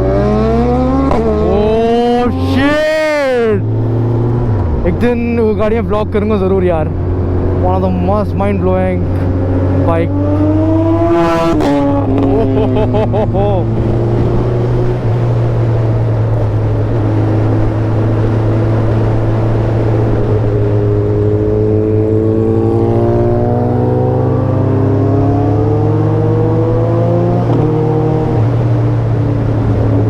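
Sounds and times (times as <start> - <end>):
motorcycle engines accelerating: 0.0 - 30.0.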